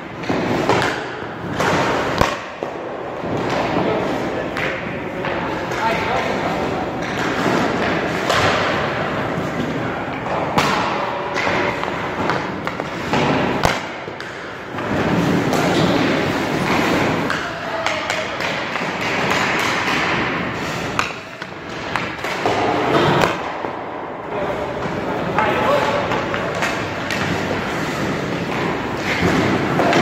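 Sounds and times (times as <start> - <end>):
pucks thudding into pads: 0.0 - 30.0
skates scraping ice: 0.0 - 30.0
sticks striking pucks: 0.0 - 30.0.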